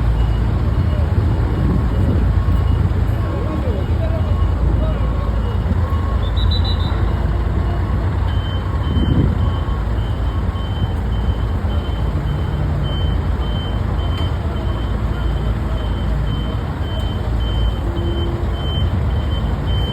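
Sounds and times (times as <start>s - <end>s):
low engine rumble: 0.0s - 19.9s.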